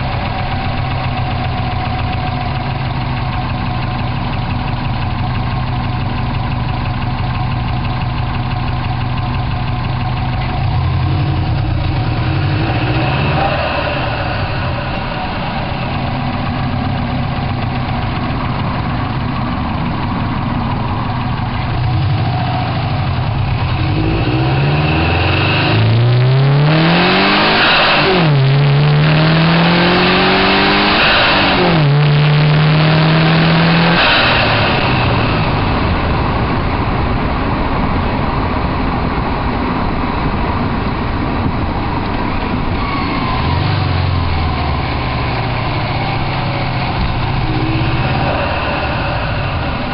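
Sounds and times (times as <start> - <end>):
car engine revving: 0.0 - 49.9
turbo intake rushing: 0.0 - 49.9.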